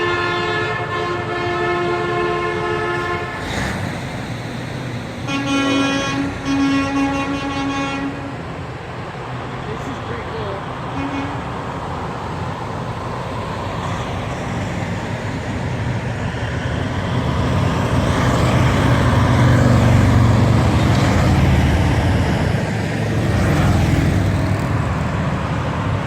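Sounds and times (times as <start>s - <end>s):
diesel truck driving past: 0.0s - 26.0s.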